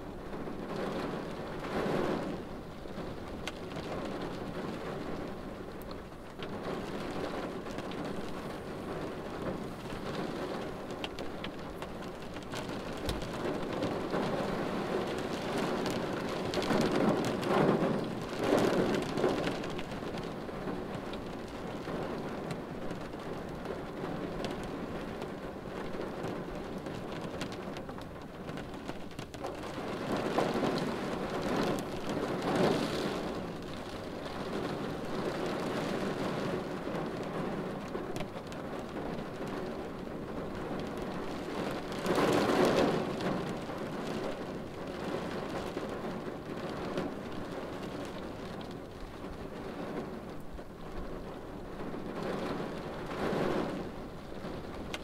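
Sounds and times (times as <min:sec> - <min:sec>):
rain drumming on windshield: 0:00.0 - 0:55.0.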